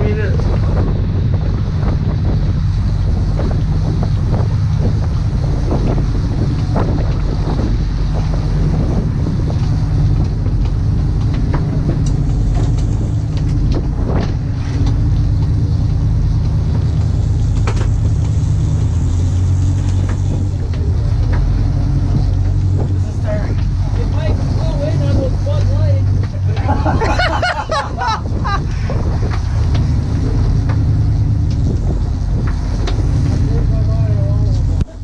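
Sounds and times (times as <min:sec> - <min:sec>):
boat engines droning: 0:00.0 - 0:35.0
wind buffeting microphone: 0:00.0 - 0:35.0.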